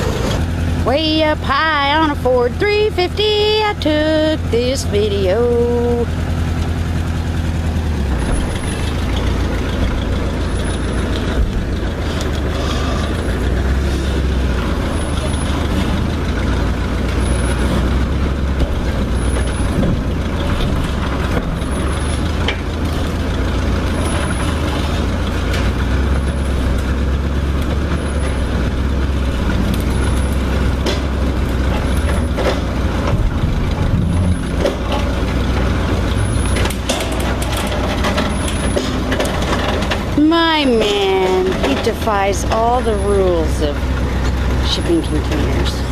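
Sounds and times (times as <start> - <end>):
truck engine running: 0.0 - 45.9
winch cable dragging container: 7.8 - 45.9.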